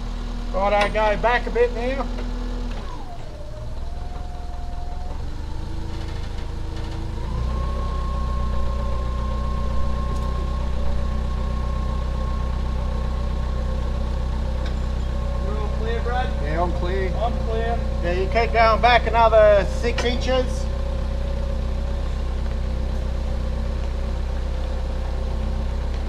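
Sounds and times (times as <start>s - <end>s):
forklift engine whining: 0.0s - 26.0s.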